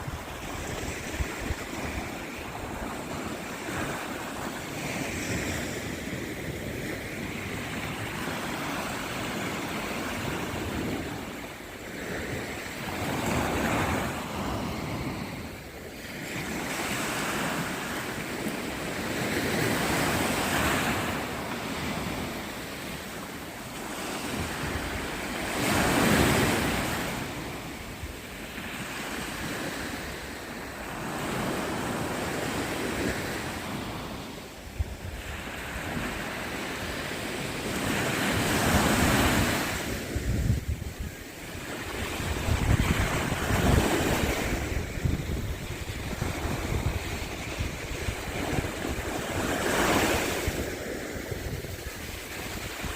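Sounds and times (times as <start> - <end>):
waves breaking on shore: 0.0 - 52.9
wind on microphone: 0.0 - 52.9.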